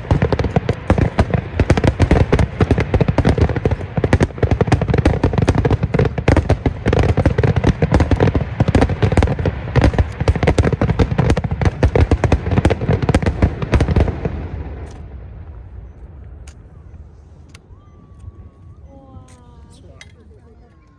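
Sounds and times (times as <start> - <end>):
fireworks bangs and crackles: 0.0 - 20.9.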